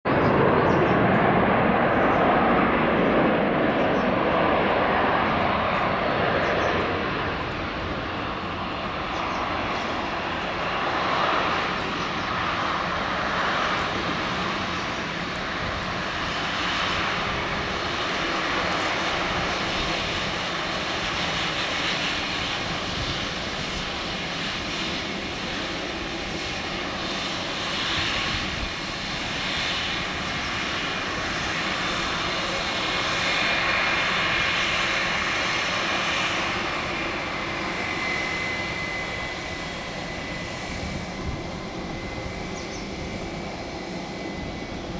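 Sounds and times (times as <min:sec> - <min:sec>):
jet engines rumbling: 0:00.0 - 0:44.9.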